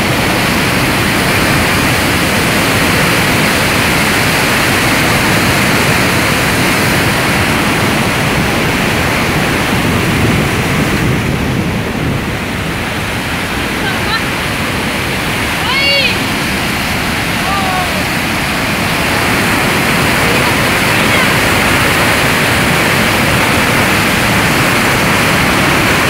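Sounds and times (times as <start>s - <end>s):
flood water rushing: 0.0s - 26.0s.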